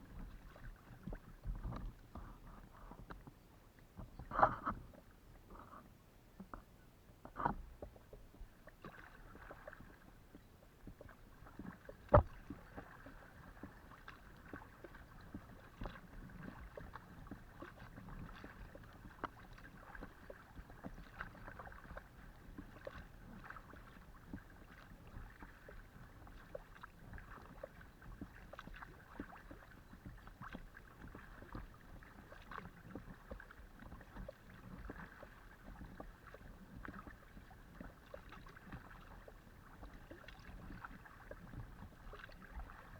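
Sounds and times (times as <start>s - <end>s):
paddle splashing in water: 3.9s - 5.9s, 6.5s - 42.9s.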